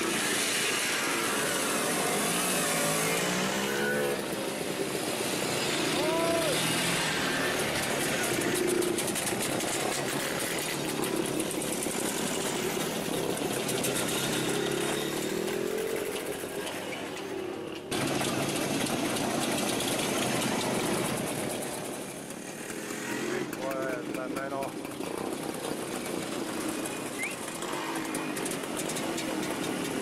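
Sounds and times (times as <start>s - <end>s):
motorcycles riding past: 0.0s - 30.0s.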